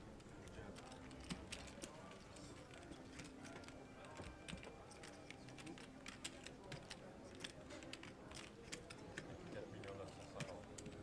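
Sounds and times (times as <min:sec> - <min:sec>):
poker chips clicking: 0:00.4 - 0:11.0.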